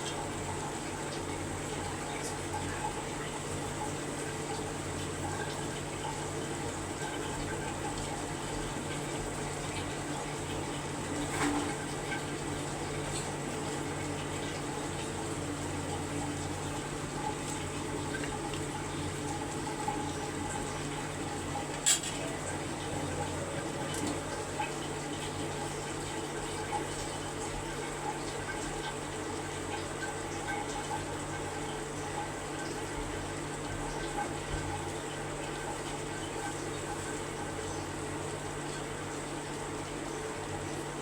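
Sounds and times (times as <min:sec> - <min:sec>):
curry bubbling and sizzling in pot: 0:00.1 - 0:41.0.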